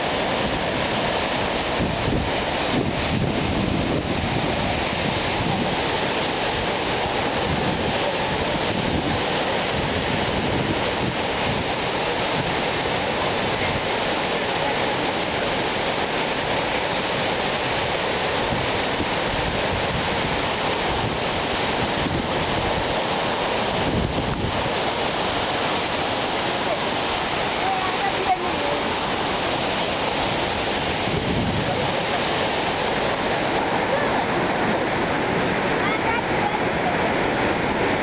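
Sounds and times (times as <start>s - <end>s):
rush of falling water: 0.0s - 38.0s.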